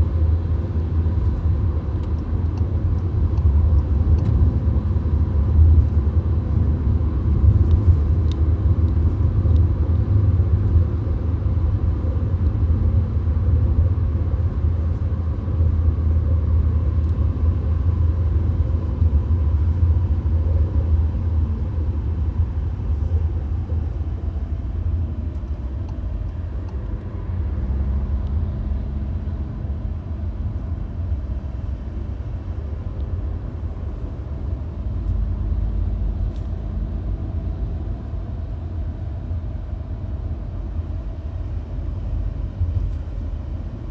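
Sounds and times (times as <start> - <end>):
car cabin road noise: 0.0 - 43.9.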